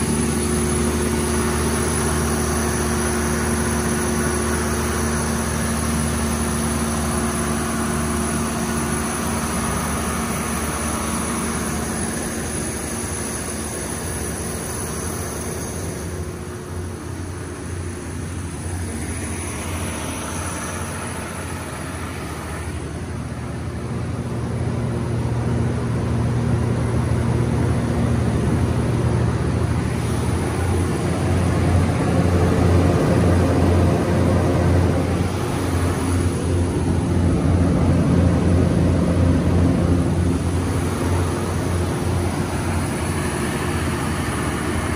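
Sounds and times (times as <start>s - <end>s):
diesel generator engine humming: 0.0s - 44.9s.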